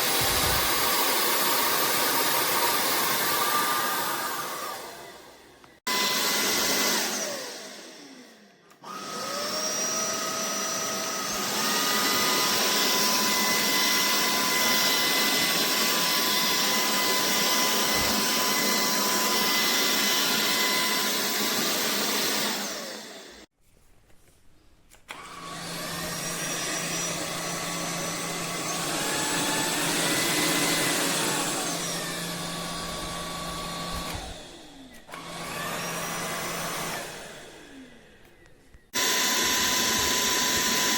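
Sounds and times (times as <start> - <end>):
stick vacuum motor whine: 0.0 - 23.5, 25.1 - 40.9.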